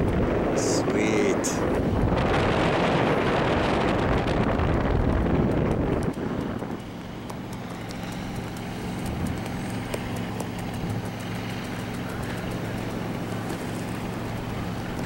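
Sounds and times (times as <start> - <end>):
boat engine drone: 0.0 - 15.0
light wind: 0.0 - 15.0.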